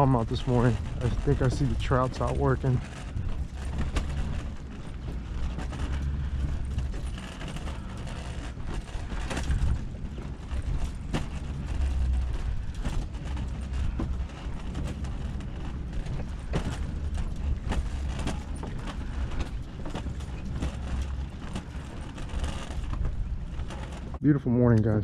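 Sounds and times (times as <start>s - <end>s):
knocks and rattles: 0.0s - 24.2s
steady low rumble: 0.0s - 25.0s.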